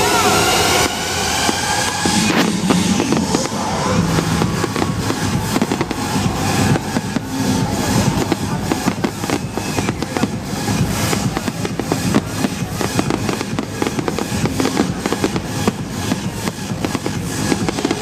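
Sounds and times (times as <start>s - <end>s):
fireworks crackling and banging: 0.0s - 18.0s
music playing: 0.0s - 18.0s.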